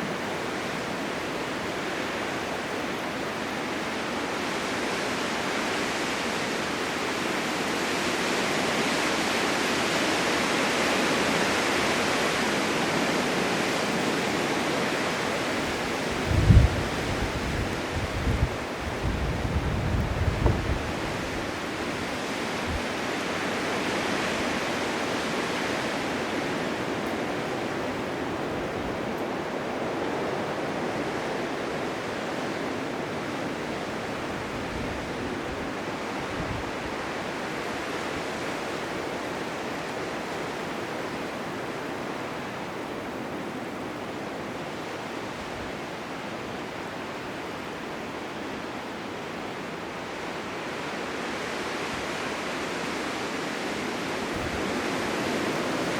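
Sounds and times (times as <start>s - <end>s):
blizzard wind blowing: 0.0s - 55.9s.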